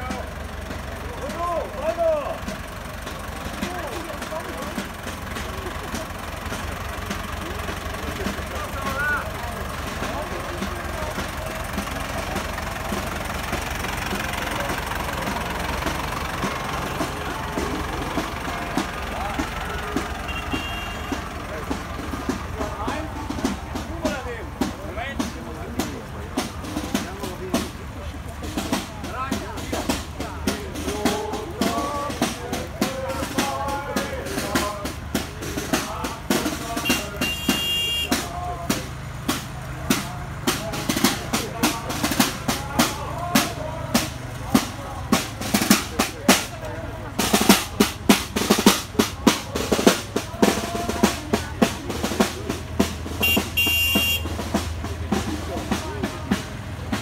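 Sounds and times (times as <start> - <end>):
faint voices: 0.0 - 57.0
snare and bass drums marching: 0.0 - 57.0
tractor diesel engine running: 0.0 - 57.0.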